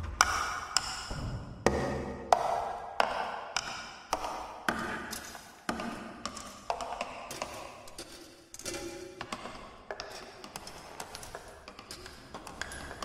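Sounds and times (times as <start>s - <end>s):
electronic music with percussive taps: 0.0s - 13.0s.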